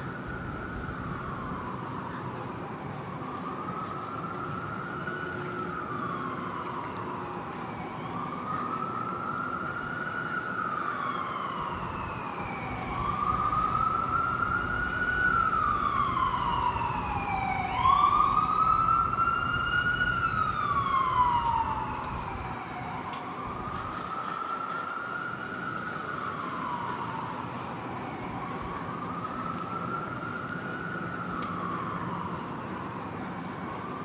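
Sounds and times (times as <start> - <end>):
emergency siren wailing: 0.0 - 34.0.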